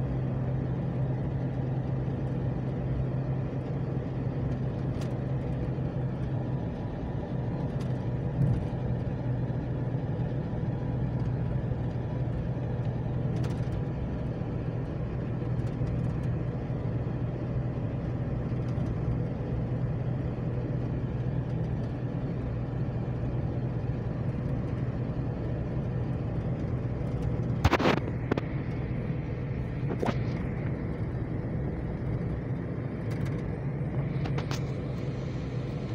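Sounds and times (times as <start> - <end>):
low hum: 0.0 - 35.9
vehicle engine and tyre noise: 0.0 - 35.9.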